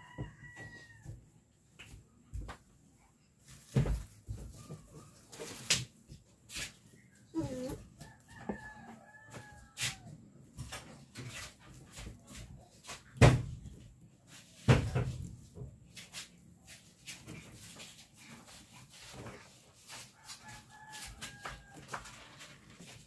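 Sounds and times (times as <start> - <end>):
soft rustling and light taps: 0.0 - 23.0.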